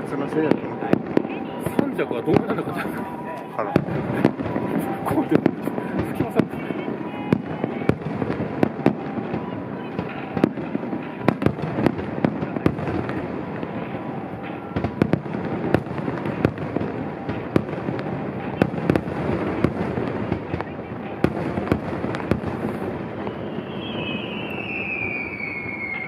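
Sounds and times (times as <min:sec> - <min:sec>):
fireworks bangs: 0:00.0 - 0:26.0
fireworks crackle and rumble: 0:00.0 - 0:26.0.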